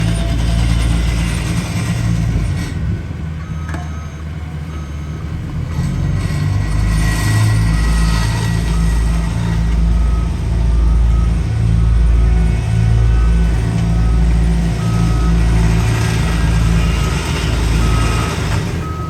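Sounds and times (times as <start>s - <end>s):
paving machine engines droning: 0.0s - 19.0s.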